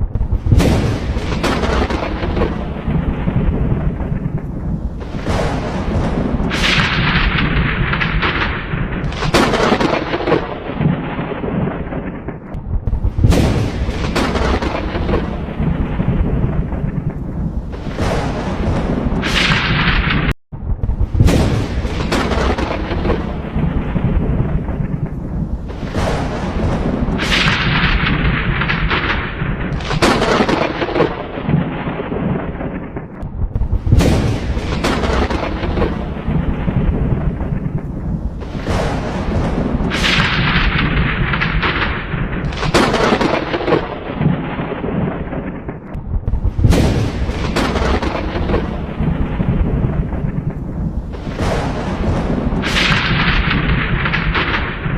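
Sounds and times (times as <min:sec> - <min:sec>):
sharp thunder cracks: 0:00.0 - 0:54.9
thunder rumbling: 0:00.0 - 0:54.9.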